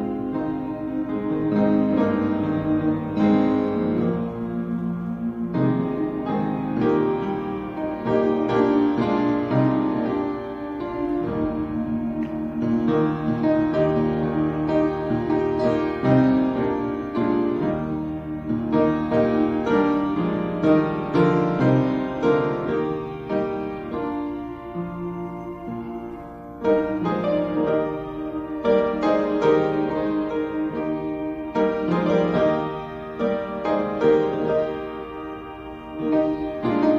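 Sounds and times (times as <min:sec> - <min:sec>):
slow piano music: 0:00.0 - 0:36.9.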